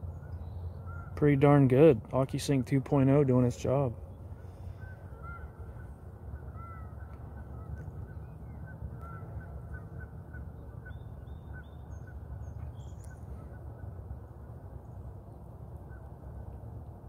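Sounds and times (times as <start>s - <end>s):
distant birds calling: 0.0s - 16.7s.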